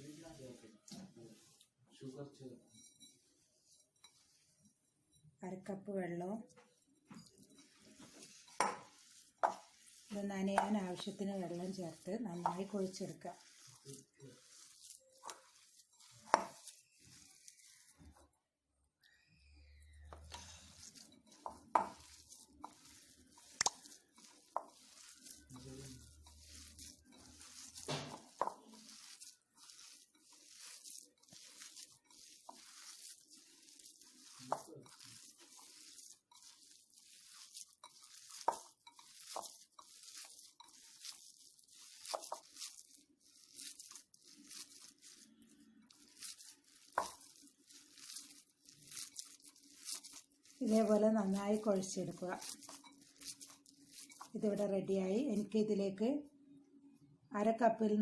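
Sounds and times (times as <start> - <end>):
hands kneading wet dough: 0.0 - 55.6.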